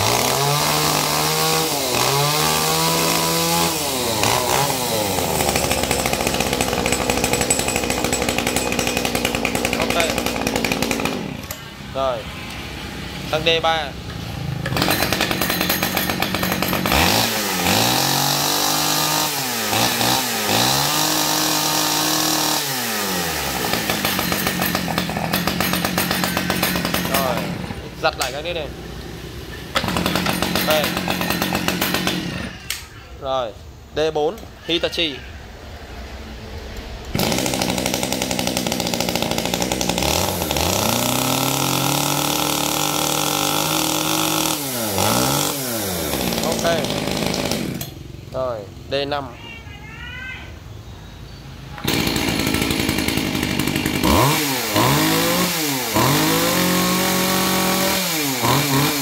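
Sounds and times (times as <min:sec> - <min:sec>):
chainsaw engine revving and idling: 0:00.0 - 0:32.8, 0:37.1 - 0:48.5, 0:51.8 - 0:59.0.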